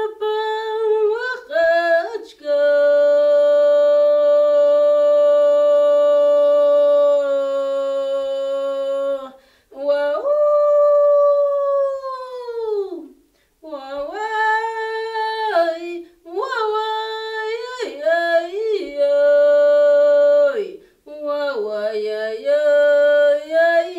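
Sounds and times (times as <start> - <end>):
woman singing unaccompanied: 0.0 - 23.9.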